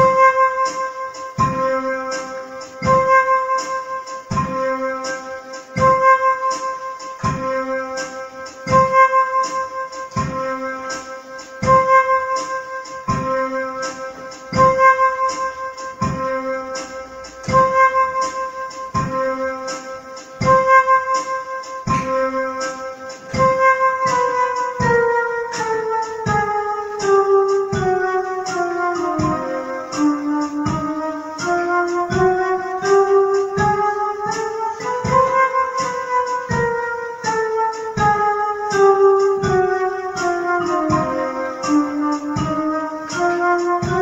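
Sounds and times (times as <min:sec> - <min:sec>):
electric piano music: 0:00.0 - 0:44.0
steady clicking beat: 0:00.0 - 0:44.0.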